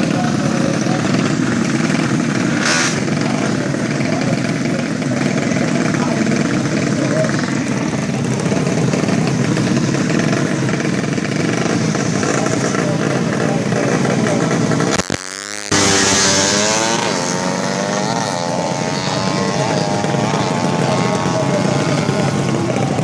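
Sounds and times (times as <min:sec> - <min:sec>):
background engine noise: 0:00.0 - 0:23.0
moped engine revving: 0:00.0 - 0:23.0.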